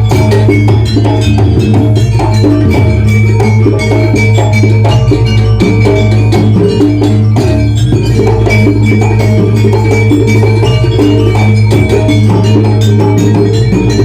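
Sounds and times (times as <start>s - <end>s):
drums playing: 0.0s - 14.0s
gamelan ensemble playing: 0.0s - 14.0s.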